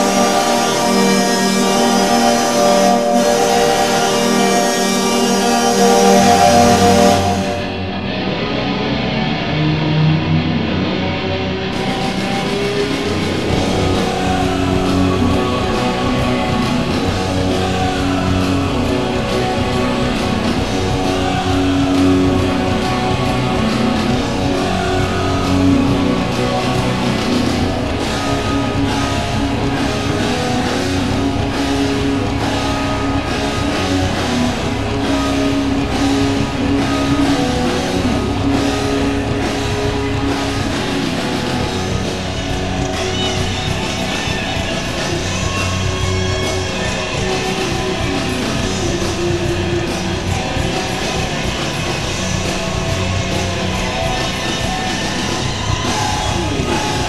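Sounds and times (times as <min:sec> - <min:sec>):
rock music with guitar and drums: 0:00.0 - 0:57.0.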